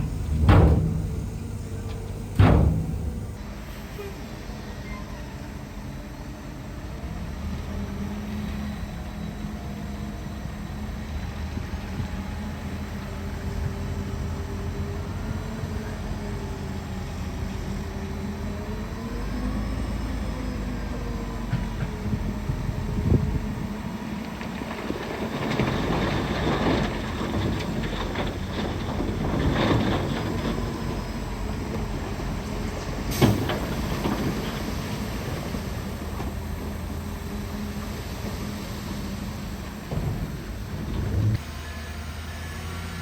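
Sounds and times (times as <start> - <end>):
bulldozer diesel engine: 0.0 - 43.0.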